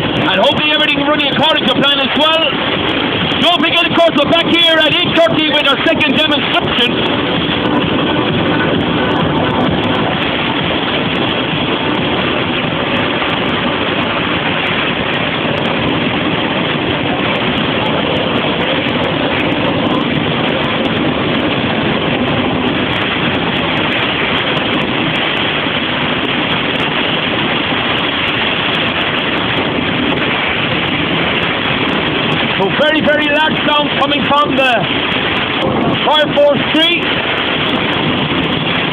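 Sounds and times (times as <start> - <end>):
jet turbine engine idling: 0.0 - 38.9.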